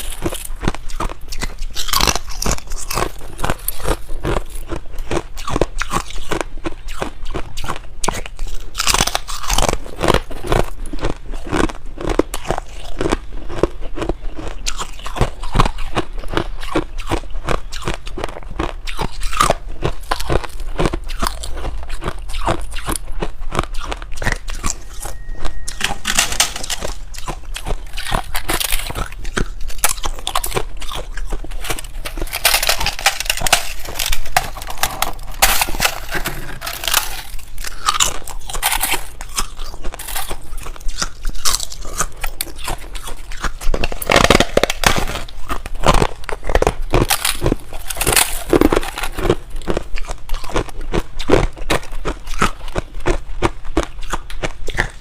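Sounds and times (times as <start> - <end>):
frost being chewed: 0.0 - 55.0.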